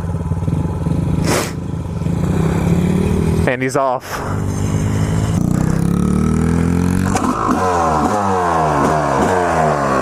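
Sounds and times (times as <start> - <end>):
dirt bike engine revving: 0.4 - 10.0.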